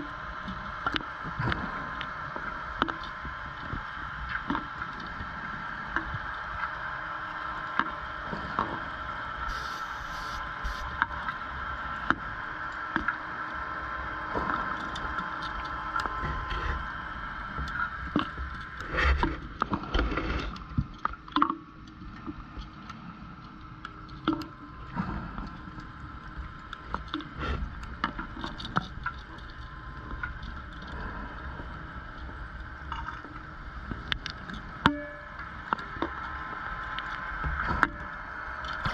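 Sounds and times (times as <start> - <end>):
underwater whine: 0.0 - 20.8, 22.9 - 38.9
underwater clicks and crackles: 0.0 - 38.9.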